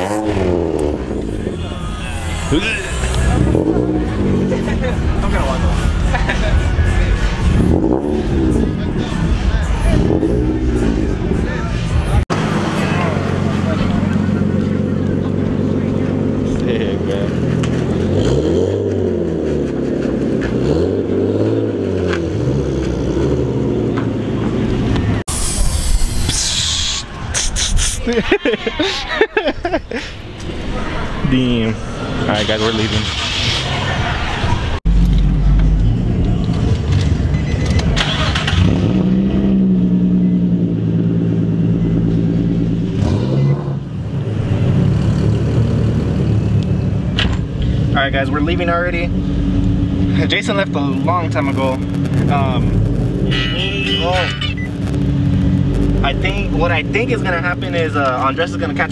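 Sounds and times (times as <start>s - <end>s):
engines idling: 0.0s - 20.8s, 28.1s - 58.9s
car engine revving: 0.0s - 26.3s, 30.4s - 58.9s.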